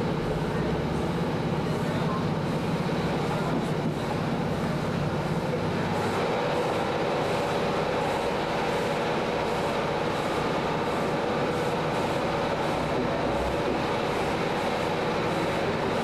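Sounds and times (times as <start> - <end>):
diesel engine drone: 0.0 - 16.0.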